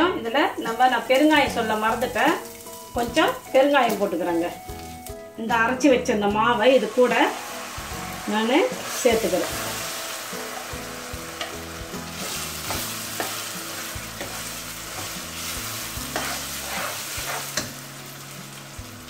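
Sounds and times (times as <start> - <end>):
batter sizzling in oil: 0.4 - 5.6, 6.2 - 19.0.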